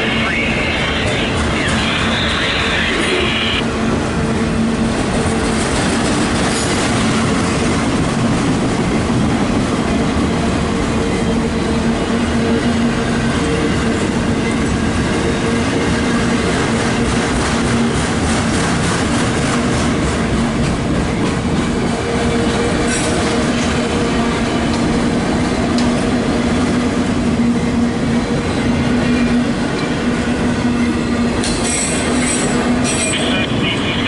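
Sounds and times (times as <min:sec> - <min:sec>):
freight train wheels rumbling: 0:00.0 - 0:34.0.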